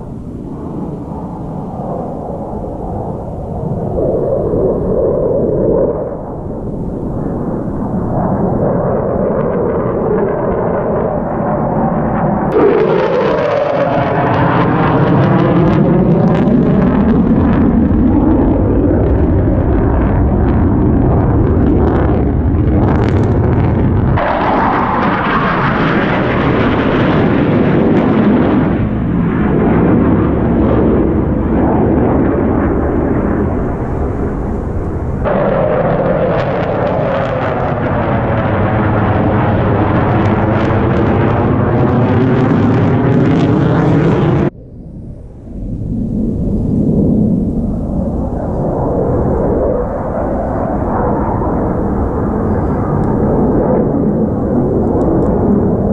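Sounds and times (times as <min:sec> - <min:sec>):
aircraft engines rushing overhead: 0:00.0 - 0:55.9.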